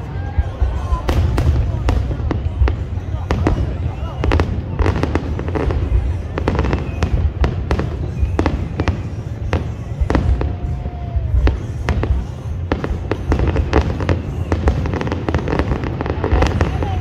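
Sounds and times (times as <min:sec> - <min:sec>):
fireworks bangs and crackles: 0:00.0 - 0:17.0
firework whistle: 0:00.1 - 0:17.0.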